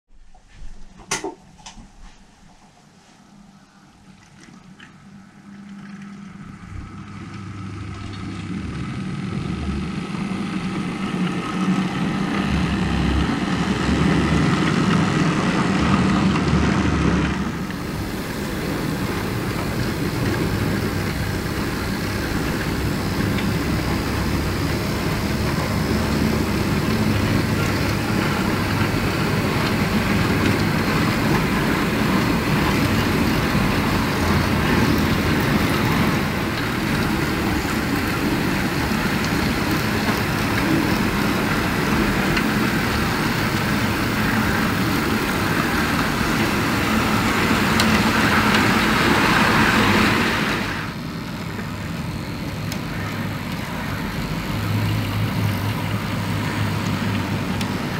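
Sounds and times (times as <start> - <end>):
locomotive motor hum: 2.4 - 57.9
model train wheels rumbling: 6.9 - 57.9.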